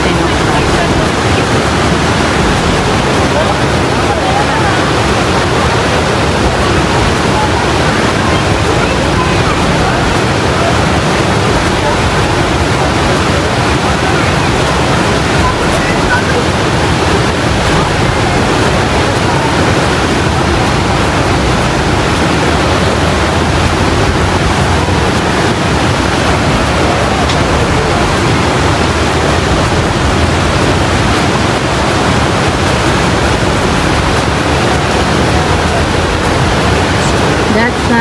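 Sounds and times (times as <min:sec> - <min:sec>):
river rapids rushing: 0:00.0 - 0:38.0.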